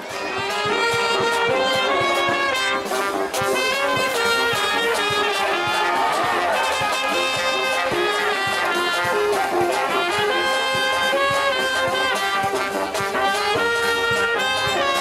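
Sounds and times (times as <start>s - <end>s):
steady drum beat: 0.0s - 15.0s
trumpets and trombones melody: 0.0s - 15.0s.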